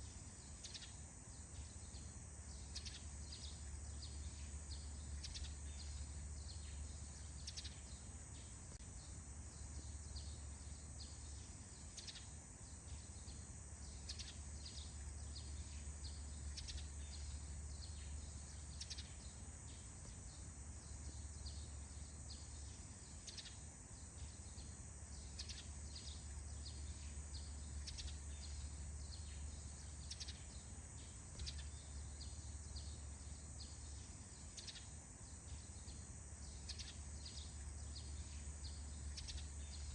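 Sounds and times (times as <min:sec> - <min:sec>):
small birds chirping: 0:00.0 - 0:39.9
steady high hiss: 0:00.0 - 0:39.9.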